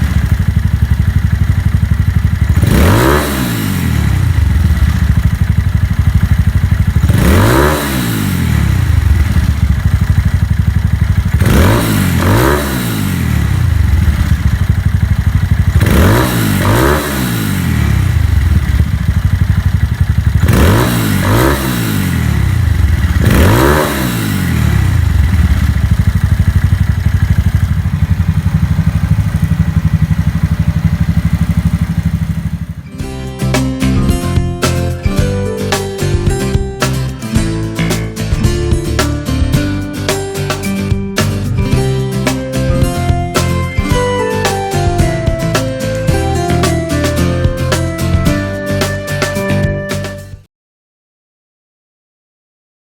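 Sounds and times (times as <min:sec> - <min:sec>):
motorcycle engine idling and revving: 0:00.0 - 0:50.4.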